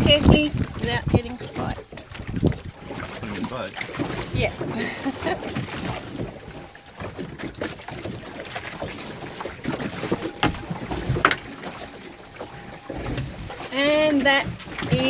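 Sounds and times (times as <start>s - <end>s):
knocks and rattles: 0.0s - 15.0s
water slapping boat hull: 0.0s - 15.0s
wind buffeting microphone: 0.0s - 15.0s.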